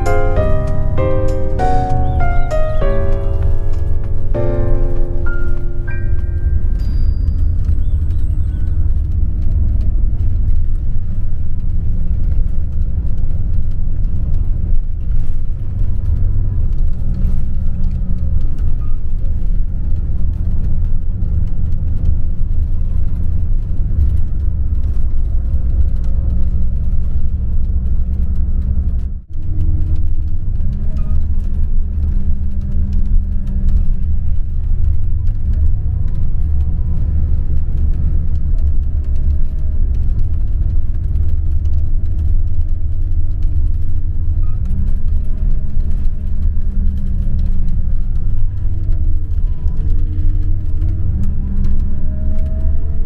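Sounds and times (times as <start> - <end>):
road noise: 0.0 - 30.8, 31.4 - 53.0
bus engine rumble: 0.0 - 53.0.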